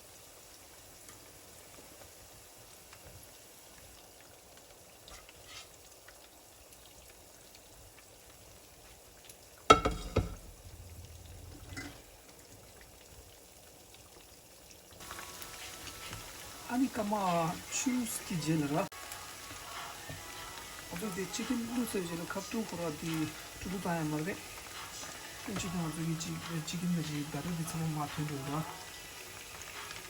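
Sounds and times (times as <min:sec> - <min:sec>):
food sizzling in frying oil: 0:00.0 - 0:30.0.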